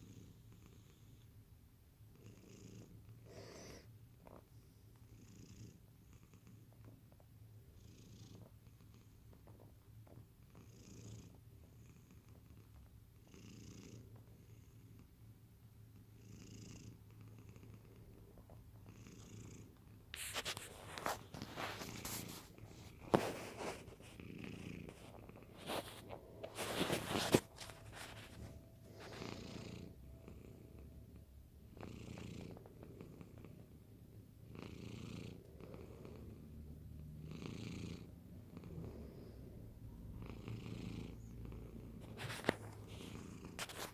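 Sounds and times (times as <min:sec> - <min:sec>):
cat snoring: 0:00.0 - 0:01.4, 0:02.1 - 0:07.0, 0:07.6 - 0:15.1, 0:15.9 - 0:43.9.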